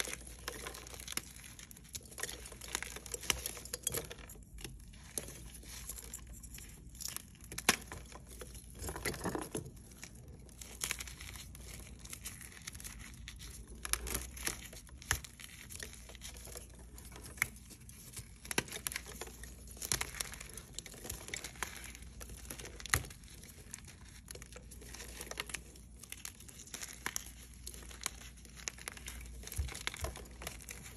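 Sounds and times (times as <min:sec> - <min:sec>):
chalk crunching and crackling: 0:00.0 - 0:30.9.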